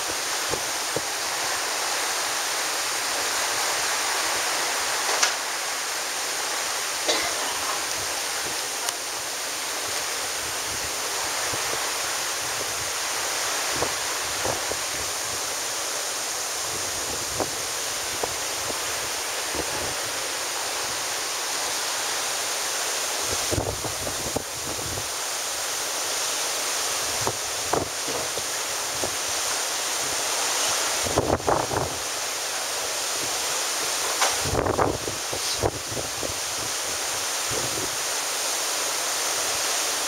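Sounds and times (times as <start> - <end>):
water passing a ship: 0.0 - 40.0.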